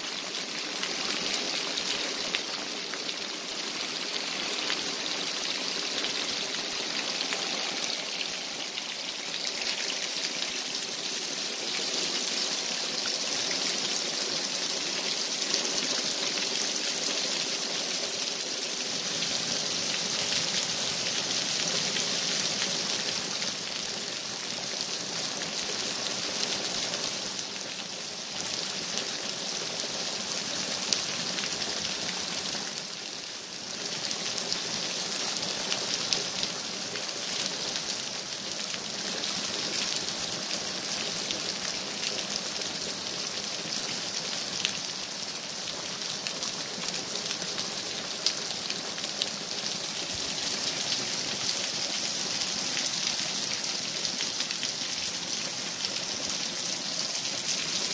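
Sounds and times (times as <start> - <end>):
heavy rain on pavement: 0.0 - 57.9.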